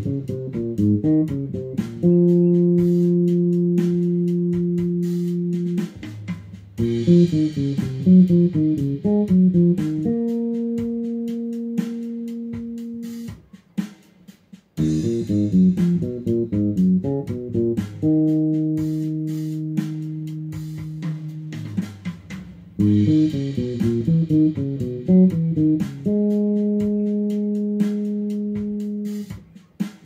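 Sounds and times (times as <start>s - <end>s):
electric bass plucked fingerstyle: 0.0s - 6.1s, 6.8s - 13.3s, 14.8s - 22.0s, 22.8s - 29.4s.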